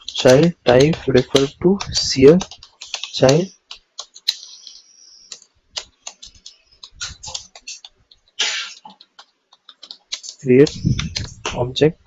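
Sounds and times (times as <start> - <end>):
keyboard typing: 0.0 - 11.6.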